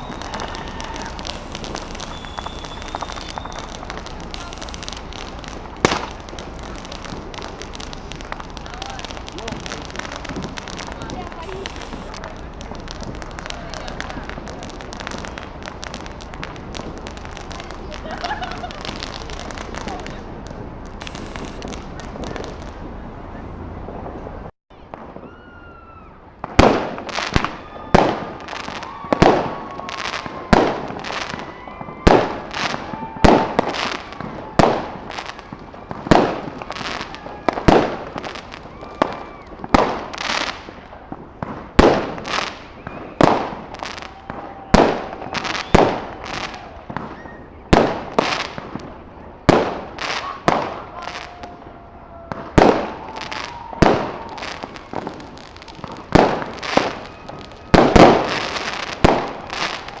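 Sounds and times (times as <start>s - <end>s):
fireworks bangs: 0.0s - 60.0s.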